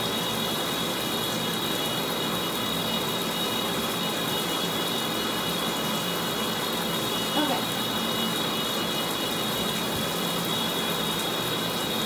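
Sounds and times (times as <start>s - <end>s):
shower water running: 0.0s - 12.0s.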